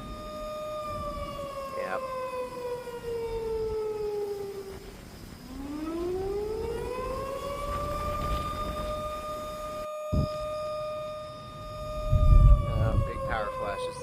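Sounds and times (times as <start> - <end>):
warning siren wailing: 0.0 - 14.0.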